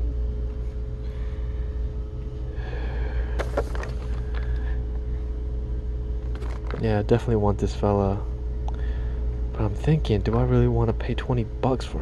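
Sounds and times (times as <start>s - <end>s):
low store background hum: 0.0s - 12.0s.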